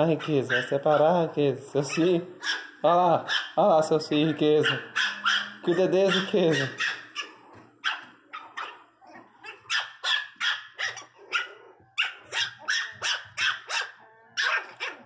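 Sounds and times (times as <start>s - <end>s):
puppies yapping: 0.0s - 15.0s.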